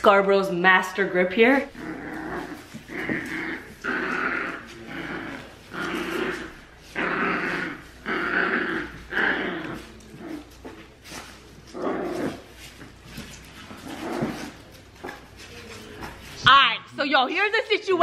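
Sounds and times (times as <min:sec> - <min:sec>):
puppy growling: 0:01.5 - 0:16.4.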